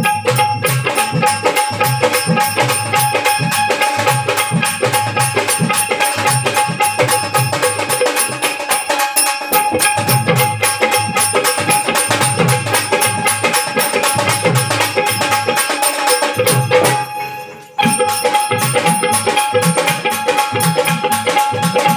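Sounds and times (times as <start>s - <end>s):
drums: 0.0s - 21.9s
jingling percussion: 0.0s - 21.9s.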